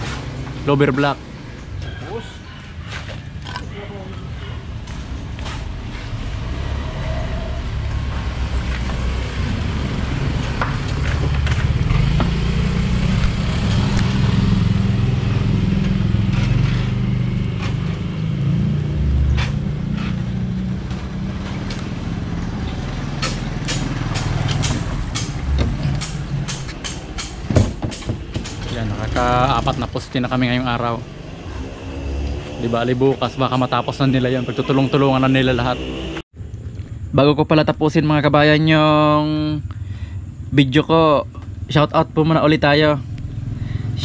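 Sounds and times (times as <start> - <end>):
engine running low rumble: 3.0 - 44.0.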